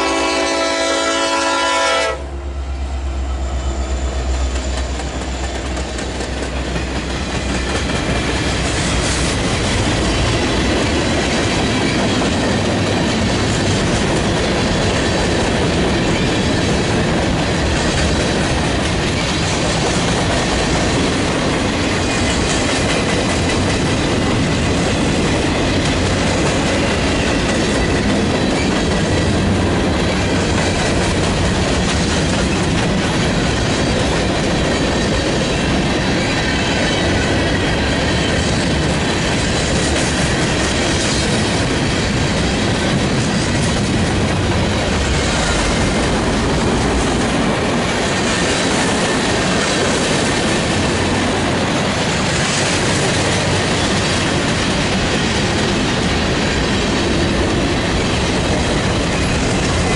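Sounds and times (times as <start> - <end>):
diesel locomotive rumble: 0.0 - 59.9
train wheels on rails: 0.0 - 59.9.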